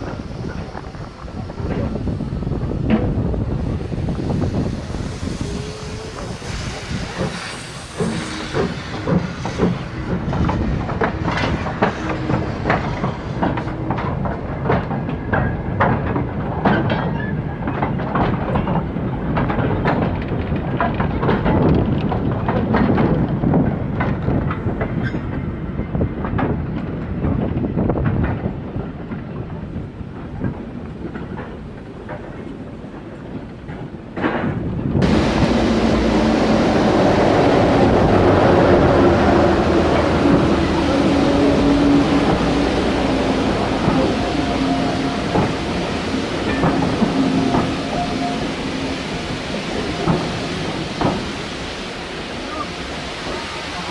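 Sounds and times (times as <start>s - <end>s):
train wheels clacking over rail joints: 0.0s - 53.9s.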